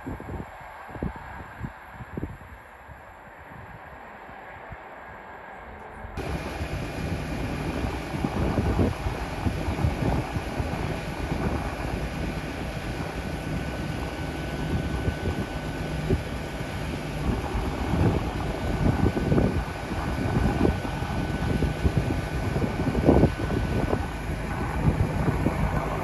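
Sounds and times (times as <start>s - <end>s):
steady outdoor rush: 0.0s - 26.0s
wind buffeting microphone: 0.0s - 26.0s.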